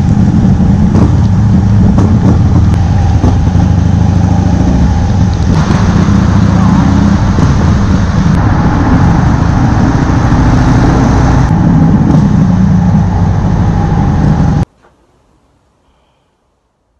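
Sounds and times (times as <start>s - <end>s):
motorcycle engine in tunnel: 0.0s - 14.7s
road noise: 0.0s - 16.9s.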